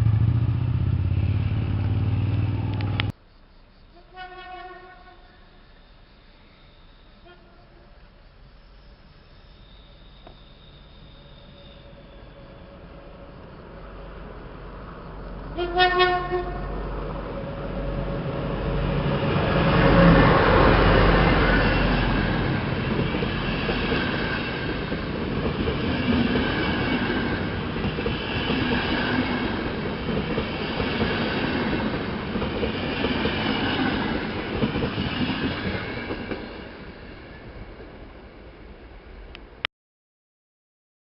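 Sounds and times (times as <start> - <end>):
train passing slowly: 0.0 - 39.6.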